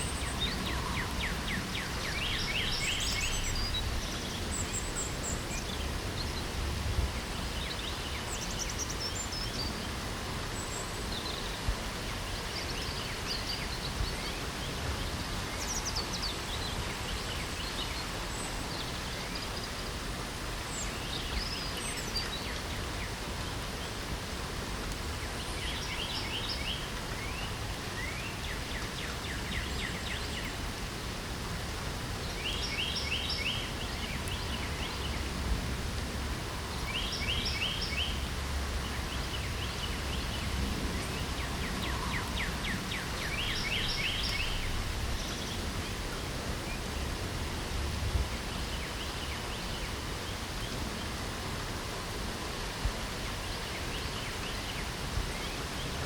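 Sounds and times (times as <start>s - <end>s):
light rain hiss: 0.0s - 56.0s.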